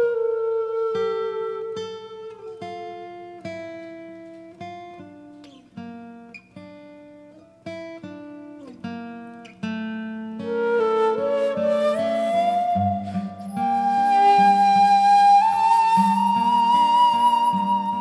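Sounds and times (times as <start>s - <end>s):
acoustic guitar slow melody: 0.0s - 18.0s.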